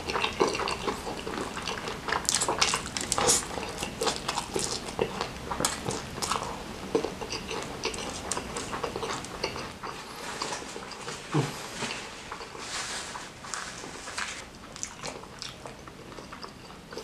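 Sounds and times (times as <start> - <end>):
chewing and lip-smacking: 0.0 - 12.6, 14.5 - 17.0.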